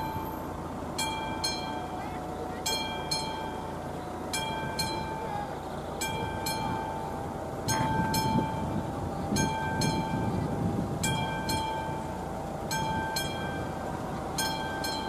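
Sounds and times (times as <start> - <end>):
mechanical warning bell ringing: 0.0 - 10.4, 11.0 - 15.0.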